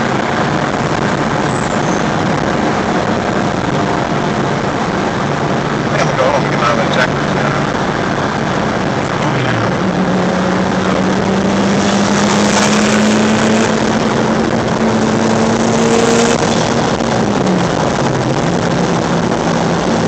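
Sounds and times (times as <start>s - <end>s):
car engine pulling hard: 0.0s - 20.0s
heavy wind: 0.0s - 20.0s
road rush: 0.0s - 20.0s.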